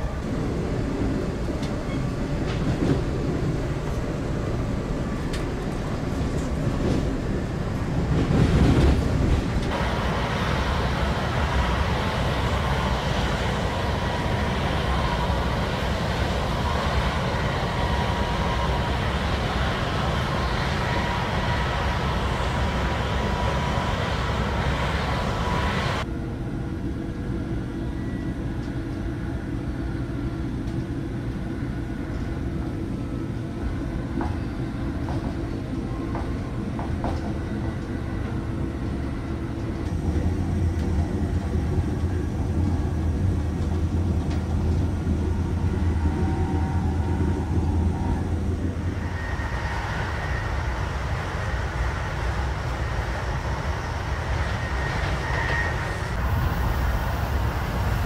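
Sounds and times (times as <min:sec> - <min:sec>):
moving train rumble: 0:00.0 - 0:58.0.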